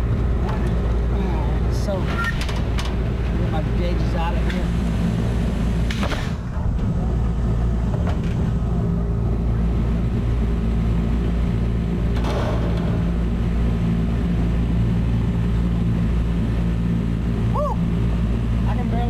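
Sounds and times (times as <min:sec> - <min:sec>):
air conditioning unit humming: 0:00.0 - 0:19.0.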